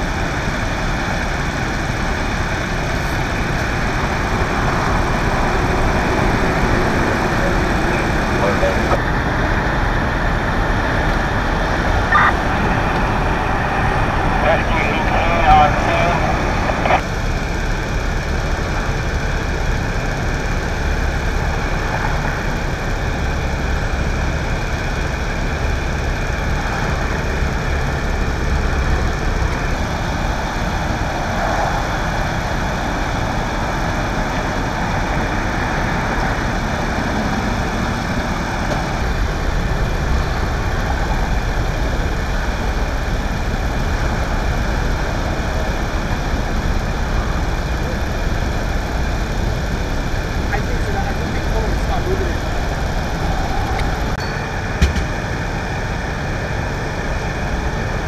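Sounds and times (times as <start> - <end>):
diesel engines idling: 0.0 - 58.0.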